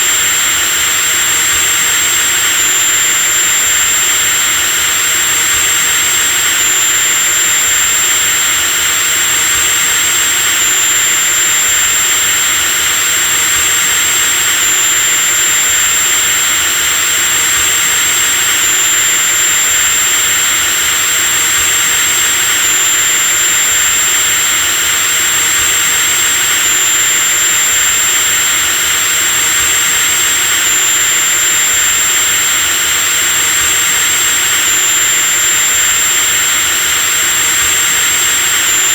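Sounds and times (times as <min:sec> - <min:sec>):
electric drill motor whining: 0:00.0 - 0:38.9.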